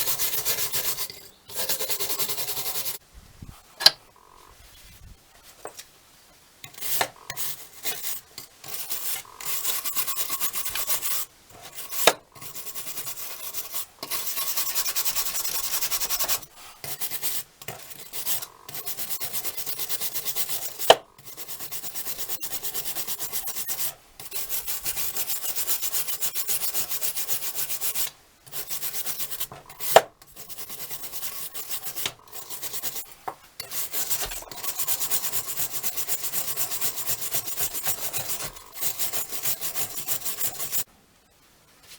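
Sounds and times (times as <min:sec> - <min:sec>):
scraping rust off metal: 0:06.6 - 0:40.9.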